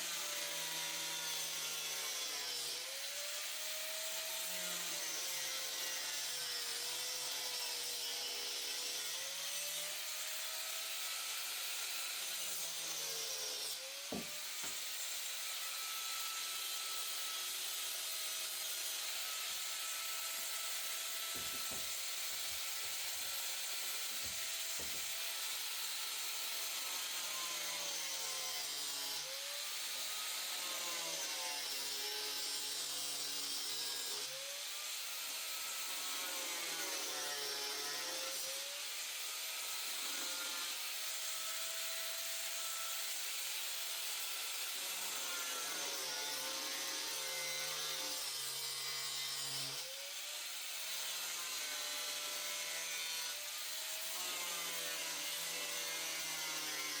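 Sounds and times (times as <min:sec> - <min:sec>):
tool motor whine: 0:00.0 - 0:57.0.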